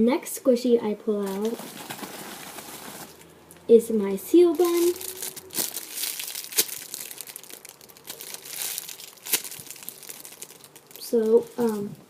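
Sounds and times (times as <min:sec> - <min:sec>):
plastic bag crinkling: 0:01.2 - 0:03.3, 0:04.4 - 0:12.0.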